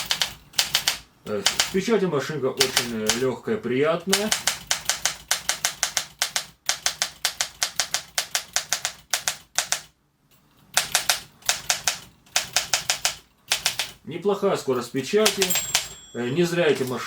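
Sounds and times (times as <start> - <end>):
manual typewriter clacking: 0.0 - 1.9, 2.6 - 3.4, 4.0 - 14.0, 15.0 - 16.0, 16.7 - 17.0.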